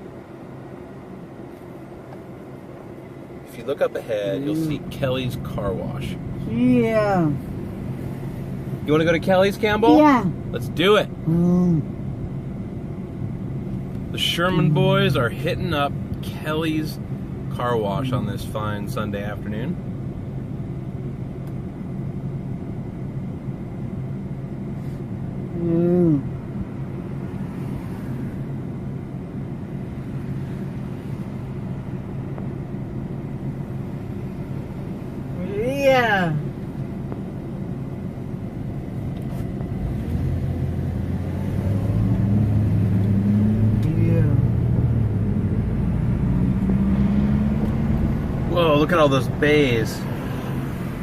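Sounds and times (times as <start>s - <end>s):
car engine and tyre hum: 0.0s - 51.0s.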